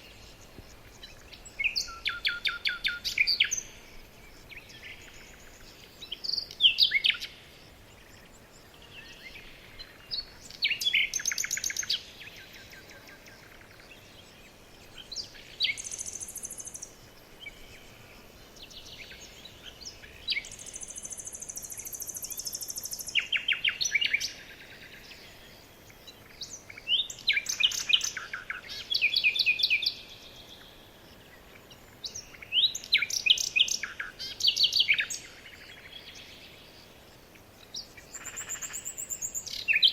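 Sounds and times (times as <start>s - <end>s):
songbirds trilling: 0.0s - 39.9s.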